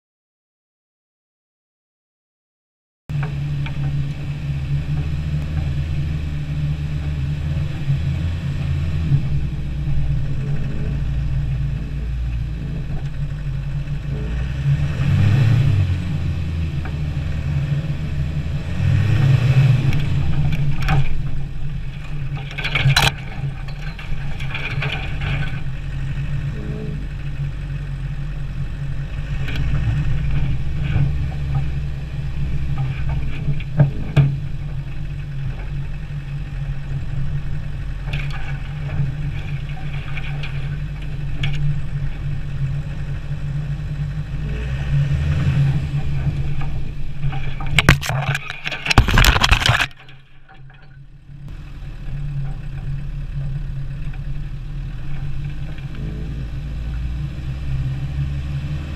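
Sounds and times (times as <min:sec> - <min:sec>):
car engine running and revving: 0:03.1 - 0:58.9.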